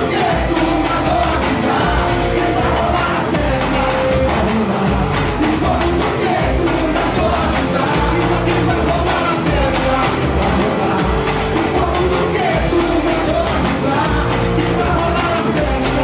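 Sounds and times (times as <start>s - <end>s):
lead vocals singing: 0.0s - 16.0s
snare drums: 0.0s - 16.0s
surdo bass drums: 0.0s - 16.0s.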